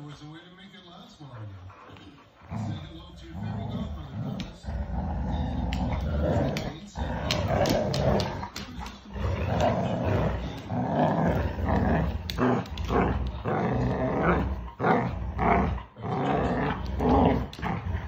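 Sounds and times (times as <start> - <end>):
dogs play-growling: 1.2 - 18.0.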